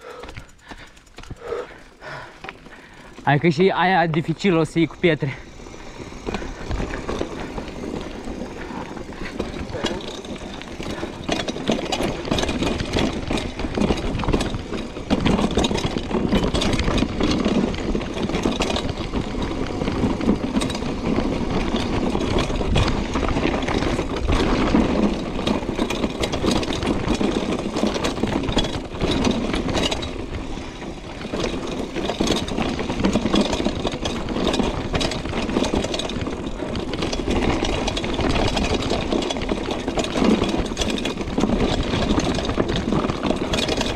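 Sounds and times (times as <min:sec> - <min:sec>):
bike knocking on stones: 0:00.0 - 0:43.9
tyre noise rushing: 0:00.0 - 0:43.9.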